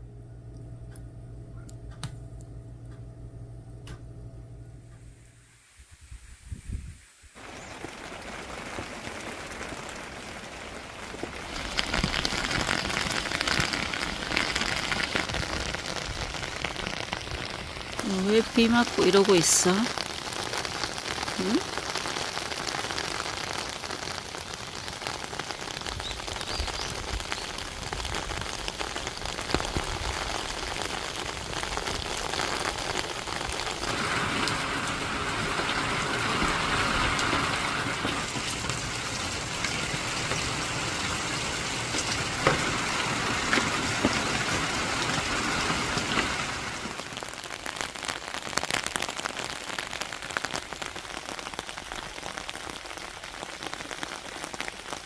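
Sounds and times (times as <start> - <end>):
steady rain falling: 4.9 - 55.0
raindrops tapping on a surface: 7.4 - 55.0.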